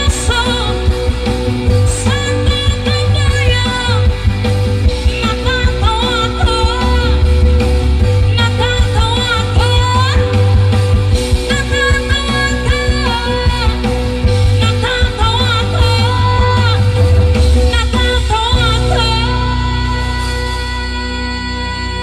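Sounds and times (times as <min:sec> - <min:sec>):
woman singing slow song: 0:00.0 - 0:04.2, 0:05.0 - 0:22.0
backing track with heavy bass: 0:00.0 - 0:22.0.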